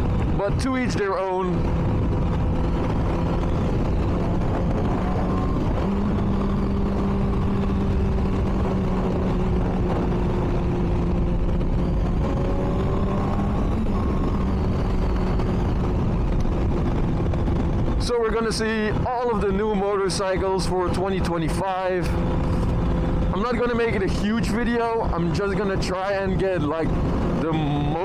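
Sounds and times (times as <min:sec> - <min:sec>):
motorcycle engine cruising: 0:00.0 - 0:28.0
wind noise: 0:00.0 - 0:28.0.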